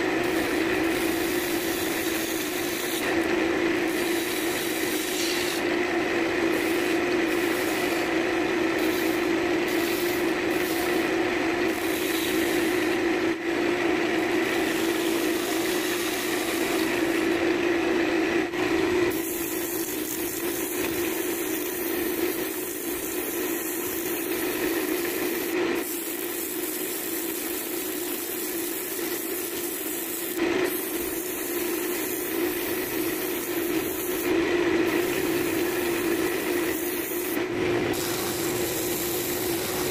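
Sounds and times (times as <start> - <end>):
sandpaper hissing on spinning wood: 0.0 - 5.7, 6.4 - 13.1, 14.2 - 17.3, 19.1 - 39.9
turning tool cutting wood: 0.0 - 13.2, 13.8 - 17.5, 18.7 - 39.9
wood lathe humming: 0.0 - 39.9.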